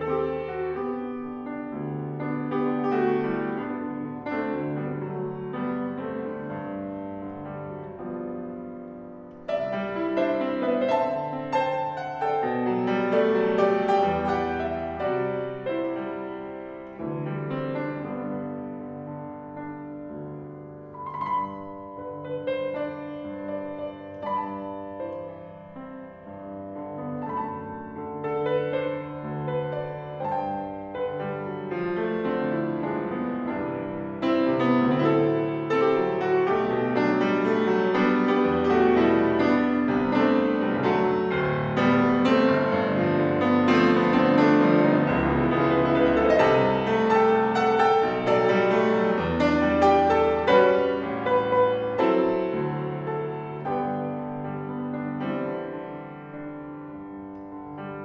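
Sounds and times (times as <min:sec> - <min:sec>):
solo piano piece: 0:00.0 - 0:58.0.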